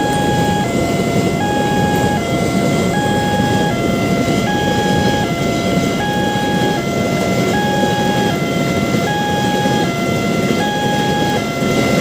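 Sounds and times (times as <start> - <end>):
two-tone crossing alarm siren: 0.0 - 12.0.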